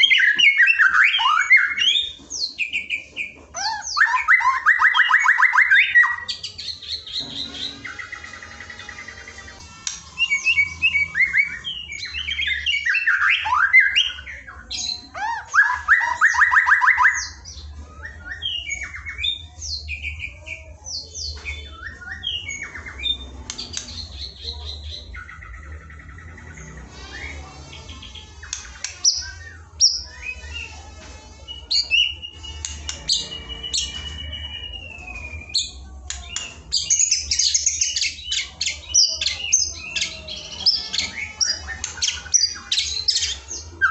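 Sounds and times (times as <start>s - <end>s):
bird singing with trills: 0.0s - 43.9s.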